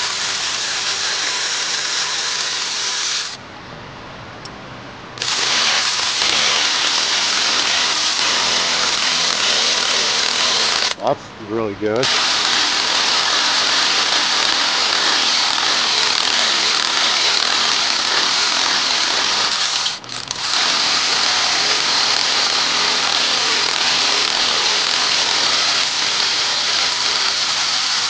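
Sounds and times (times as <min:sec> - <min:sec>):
loud steady hiss: 0:00.0 - 0:03.4, 0:05.2 - 0:28.0.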